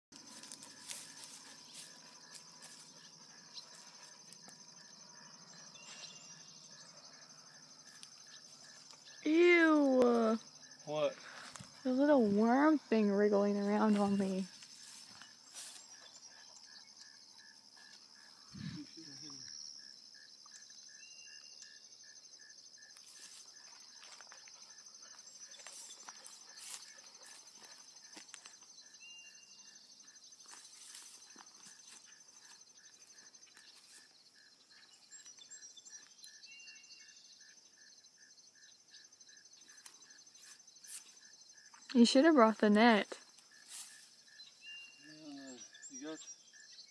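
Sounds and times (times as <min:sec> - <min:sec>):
slow regular chirp: 0:00.1 - 0:42.0, 0:42.8 - 0:46.9
insects trilling: 0:00.1 - 0:46.9.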